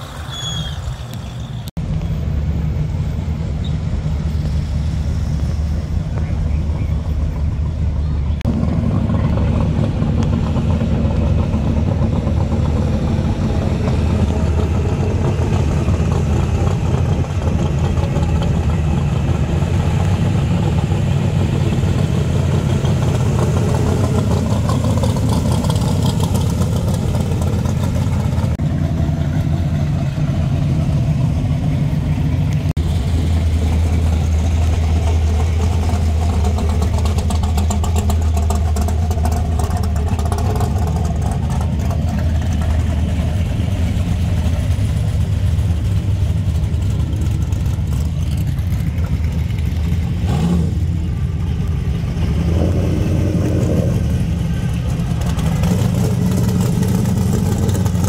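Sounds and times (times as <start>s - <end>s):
cars driving past with deep exhaust: 0.0s - 58.0s.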